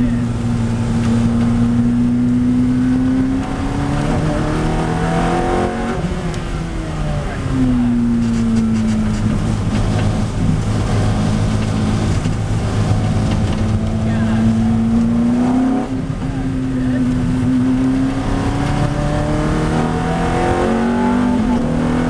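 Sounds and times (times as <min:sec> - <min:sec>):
car engine heard from inside cabin: 0:00.0 - 0:22.0.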